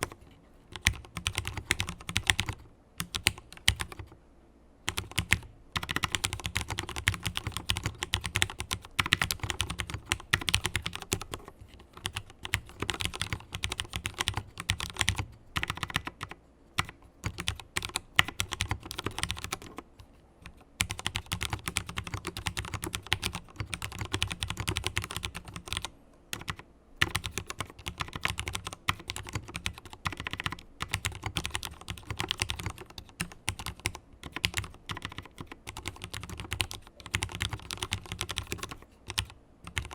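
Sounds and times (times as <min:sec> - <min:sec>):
fast typing on mechanical keyboard: 0:00.0 - 0:04.2, 0:04.9 - 0:39.9.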